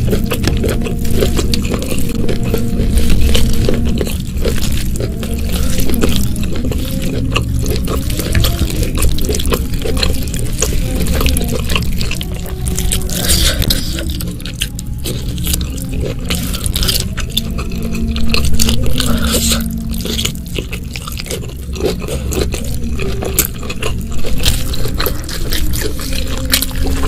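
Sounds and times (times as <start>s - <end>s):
fingers squishing wet food: 0.0s - 27.0s
wet chewing: 0.0s - 27.0s.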